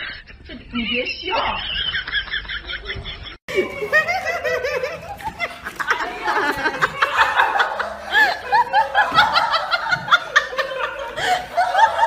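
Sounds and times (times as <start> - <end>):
people laughing and giggling: 0.0 - 12.0.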